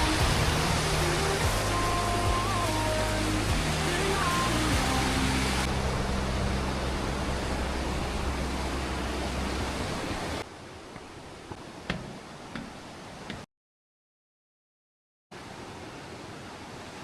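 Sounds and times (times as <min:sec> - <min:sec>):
rushing water: 0:00.0 - 0:13.5, 0:15.3 - 0:17.0.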